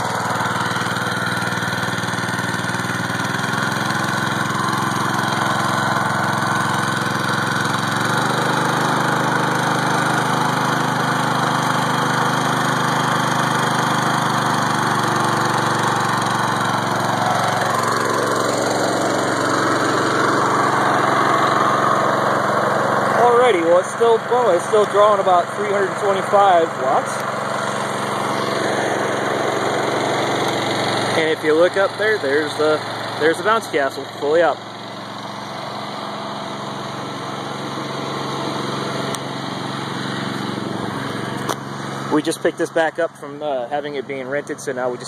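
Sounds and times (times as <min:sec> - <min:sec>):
small engine running steadily: 0:00.0 - 0:45.0.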